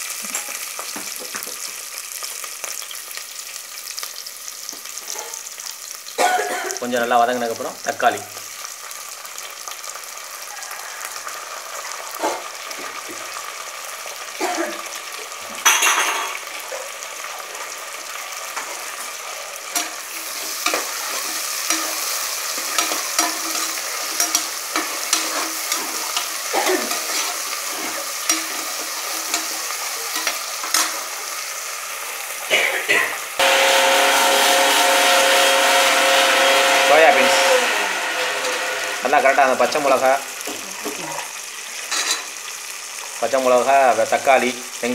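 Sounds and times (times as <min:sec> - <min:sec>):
vegetables sizzling in oil: 0:00.0 - 0:44.9.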